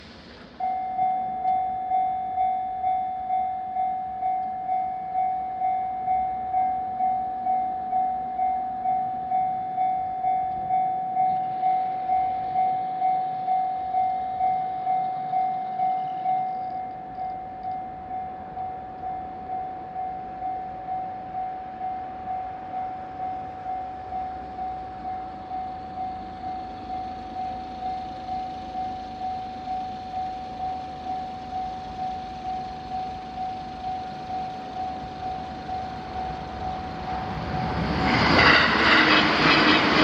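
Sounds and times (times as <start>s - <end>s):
level crossing warning bell dinging: 0.5s - 38.6s.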